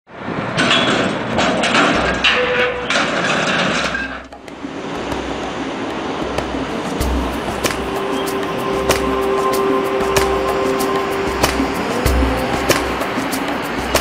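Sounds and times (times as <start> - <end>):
steady machinery noise: 0.2 - 14.0.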